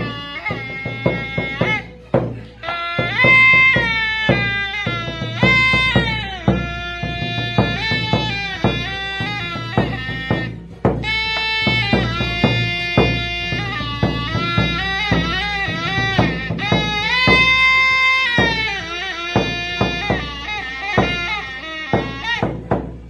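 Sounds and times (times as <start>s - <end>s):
large drum strokes: 0.0s - 23.0s
small flute melody: 0.0s - 23.0s.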